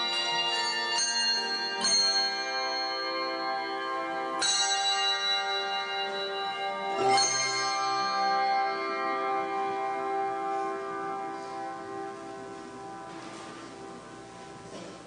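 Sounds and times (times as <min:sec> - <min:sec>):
handbell choir ringing chords: 0:00.0 - 0:14.2.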